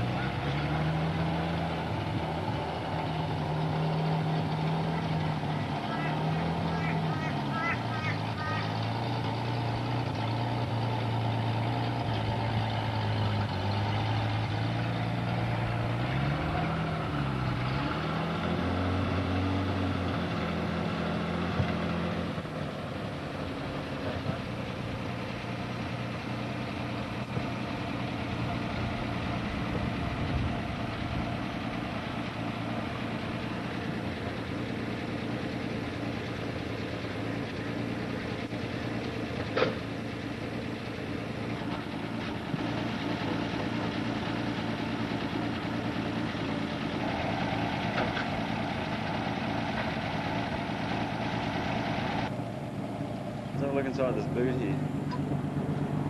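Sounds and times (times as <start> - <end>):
car engine running noisily: 0.0 - 56.0.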